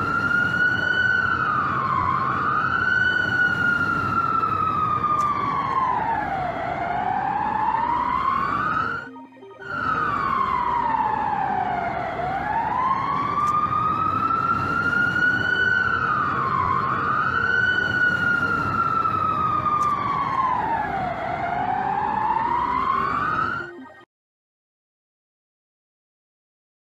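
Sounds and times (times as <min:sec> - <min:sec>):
emergency siren wailing: 0:00.0 - 0:24.1.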